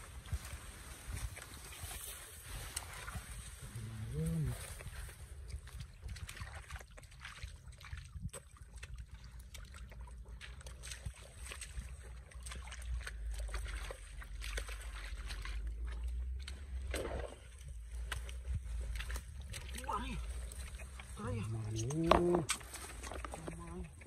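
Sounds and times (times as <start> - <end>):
hands squelching in wet mud: 0.0 - 24.0
water sloshing: 4.6 - 24.0.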